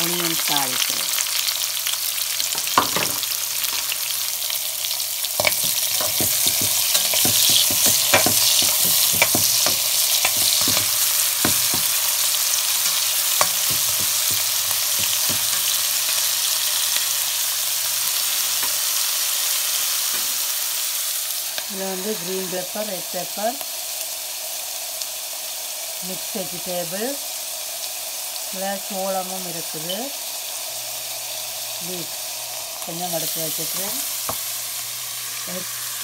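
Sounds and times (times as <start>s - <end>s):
onions sizzling in hot oil: 0.0s - 36.0s.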